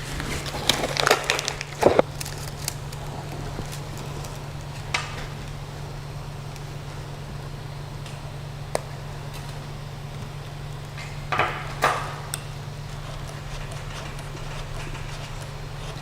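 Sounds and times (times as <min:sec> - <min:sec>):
printer fans humming: 0:00.0 - 0:16.0.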